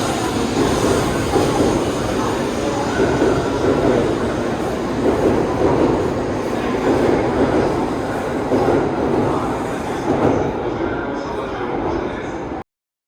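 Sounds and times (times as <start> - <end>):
train running: 0.0 - 10.7.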